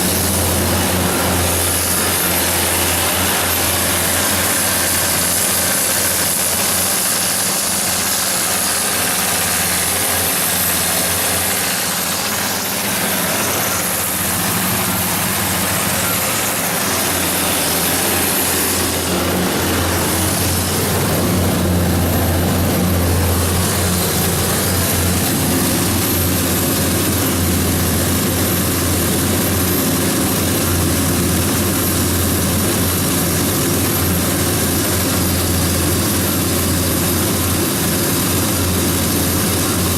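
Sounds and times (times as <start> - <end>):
diesel generator humming: 0.0 - 39.9.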